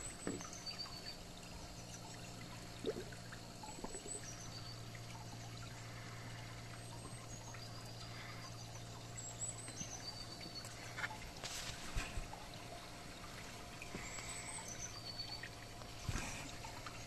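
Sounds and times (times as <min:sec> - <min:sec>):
pond water trickling: 0:00.0 - 0:17.0
steady low hum: 0:00.0 - 0:17.0.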